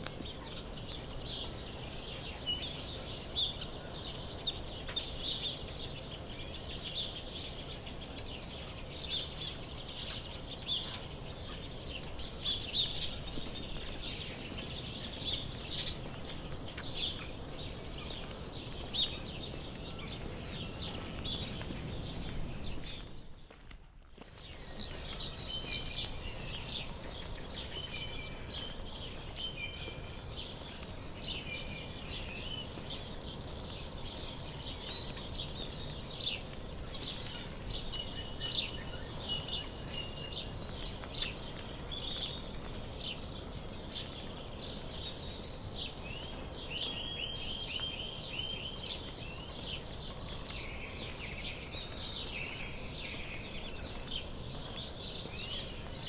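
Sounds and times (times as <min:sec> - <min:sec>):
outdoor background noise: 0:00.0 - 0:56.0
songbirds chirping and singing: 0:00.0 - 0:56.0.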